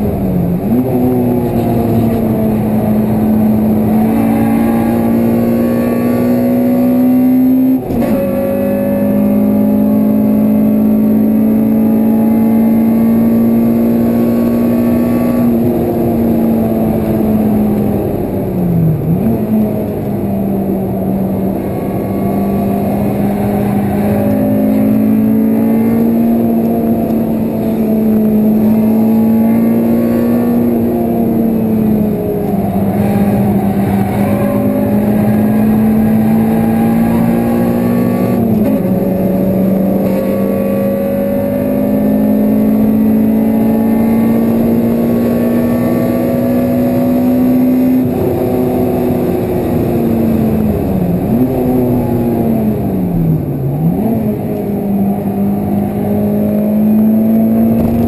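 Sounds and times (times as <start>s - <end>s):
car engine at high revs: 0.0s - 58.0s
road and wind noise: 0.0s - 58.0s.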